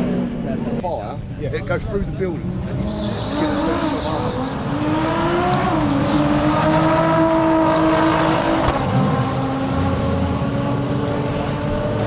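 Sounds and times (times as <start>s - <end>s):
racing engine at high revs: 2.3s - 12.0s.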